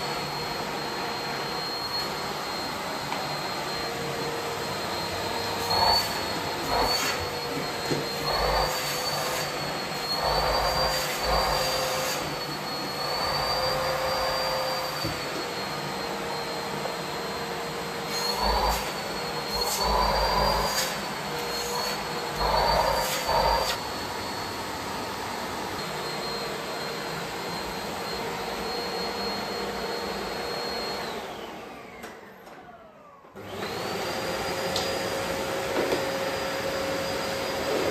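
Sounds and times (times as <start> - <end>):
vacuum cleaner with high whine: 0.0 - 37.9.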